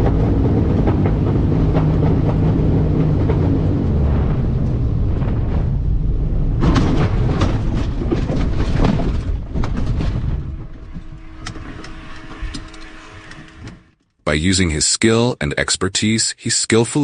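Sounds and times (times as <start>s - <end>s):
plane rumbling and rattling: 0.0s - 14.2s
steady hum: 0.0s - 17.0s.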